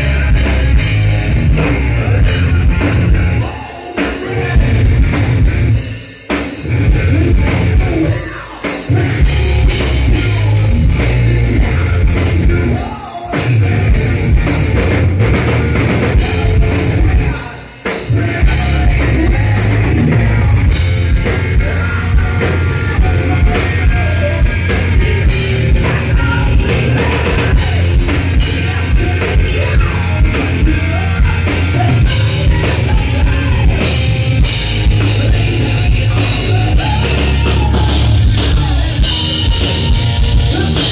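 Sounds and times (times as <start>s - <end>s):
distorted electric guitar: 0.0s - 40.9s
drum kit: 0.0s - 40.9s.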